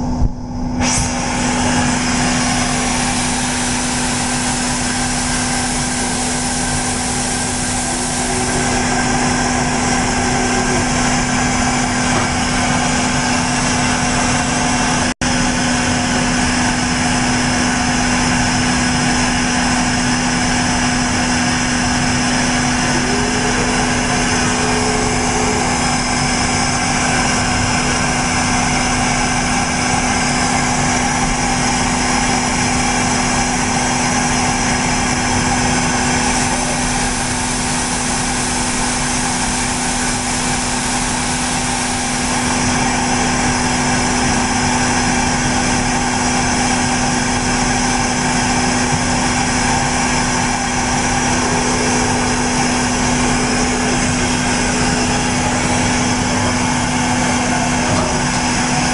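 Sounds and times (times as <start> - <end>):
machine hum and whir: 0.0 - 58.9.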